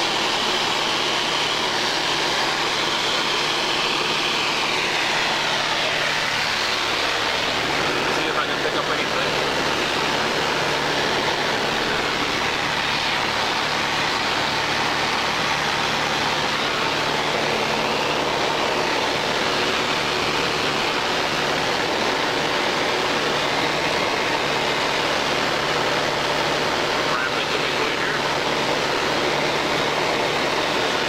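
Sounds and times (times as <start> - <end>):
small plane engine drone in cabin: 0.0 - 31.0.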